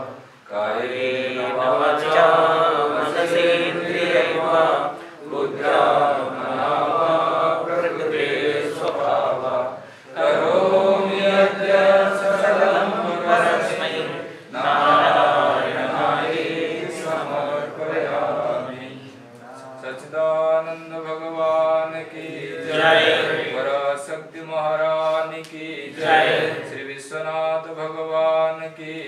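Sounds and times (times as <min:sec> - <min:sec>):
devotional mantra chanting: 0:00.0 - 0:29.0.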